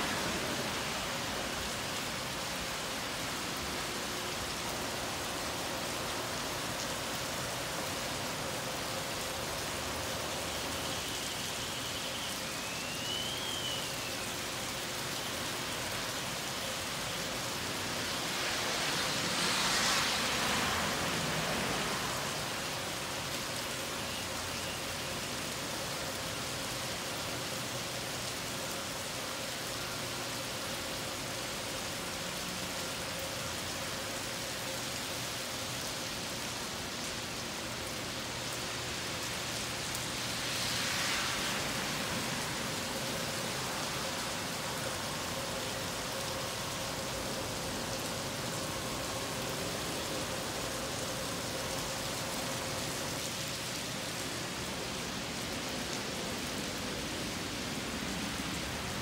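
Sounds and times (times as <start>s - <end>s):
heavy rain on wet pavement: 0.0s - 59.0s.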